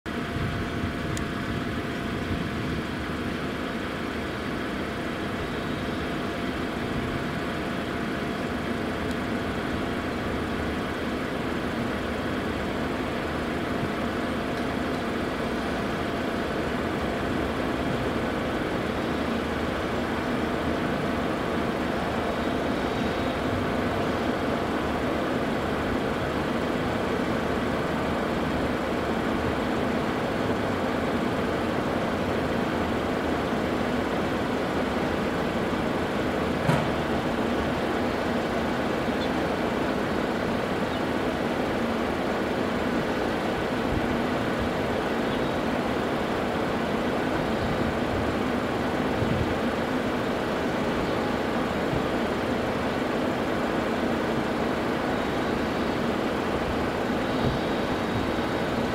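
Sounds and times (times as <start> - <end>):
distant jet engines whining: 0.1 - 58.9.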